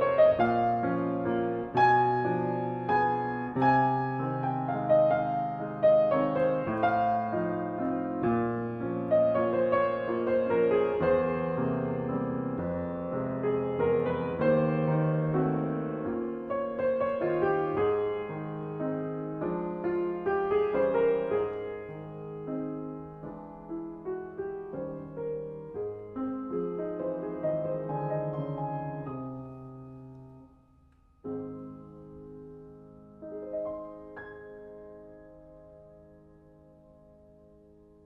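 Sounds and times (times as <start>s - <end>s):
solo piano: 0.0s - 38.0s.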